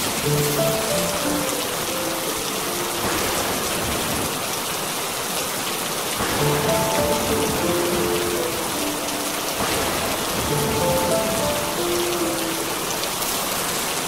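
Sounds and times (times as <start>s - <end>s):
soft music: 0.0s - 3.8s, 6.2s - 13.8s
steady rain: 0.0s - 14.0s.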